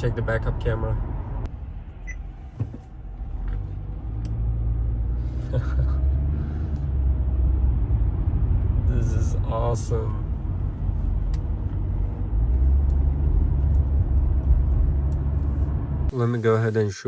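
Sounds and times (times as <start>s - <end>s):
car engine rumble and road noise: 0.0s - 17.0s.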